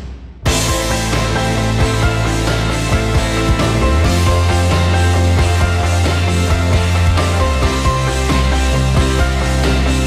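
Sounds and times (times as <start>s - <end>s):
instrumental music with steady beat: 0.0s - 10.0s
deep bass note: 0.5s - 9.6s.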